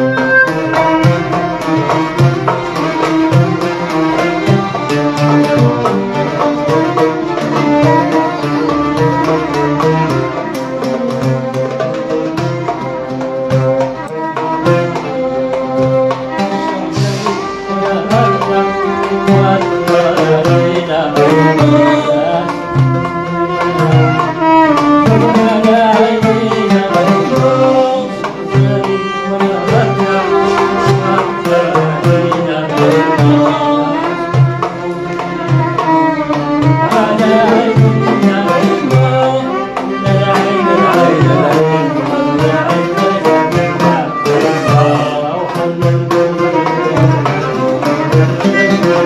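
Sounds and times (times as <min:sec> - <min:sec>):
hand drum beat: 0:00.0 - 0:49.0
oud melody: 0:00.0 - 0:49.0.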